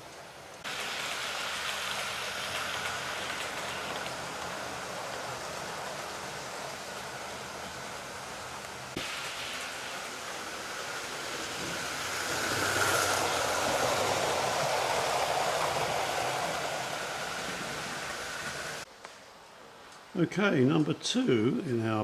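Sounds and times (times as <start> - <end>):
model train motor whine: 0.7 - 18.8.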